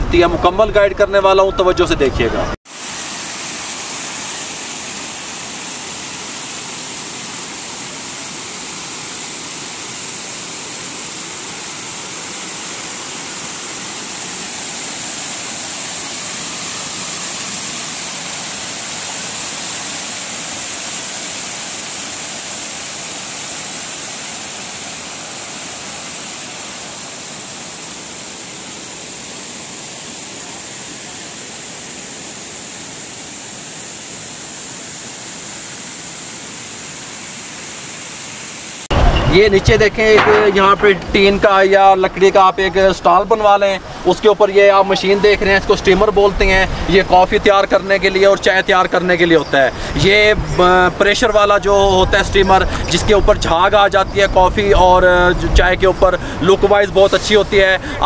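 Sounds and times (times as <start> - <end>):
waterfall rushing and splashing: 2.7 - 58.0.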